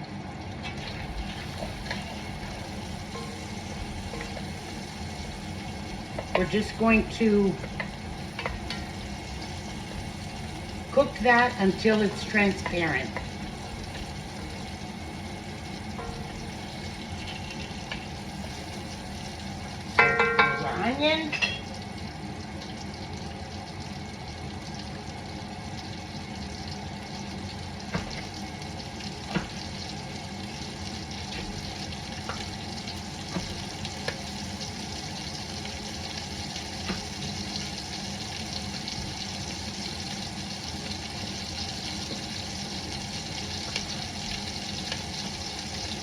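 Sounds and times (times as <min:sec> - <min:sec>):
onion sizzling in hot oil: 0:00.0 - 0:46.0.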